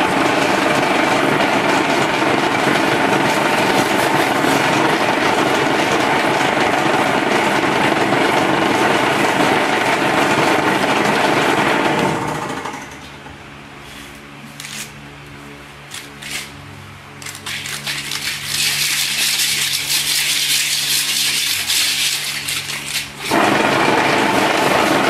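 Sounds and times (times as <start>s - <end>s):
vibrating table running: 0.0s - 13.1s, 17.2s - 25.0s.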